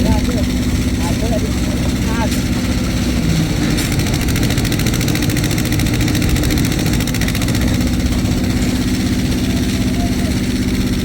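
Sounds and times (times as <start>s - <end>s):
engine running steadily: 0.0s - 11.0s
fast ticking rattle: 0.0s - 11.0s.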